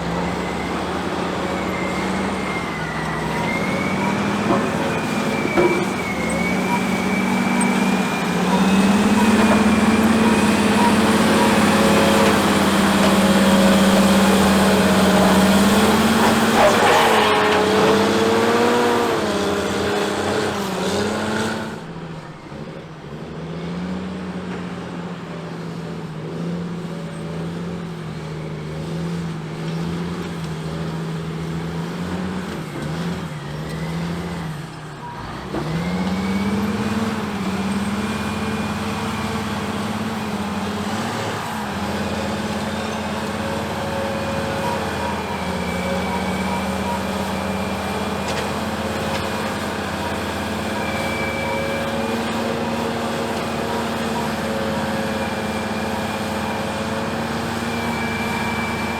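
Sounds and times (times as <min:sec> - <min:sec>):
diesel engines running: 0:00.0 - 0:58.9.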